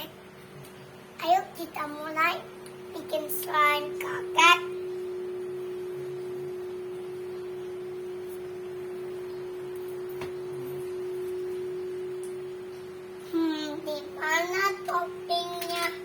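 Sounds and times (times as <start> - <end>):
steady tone: 2.3 - 15.5.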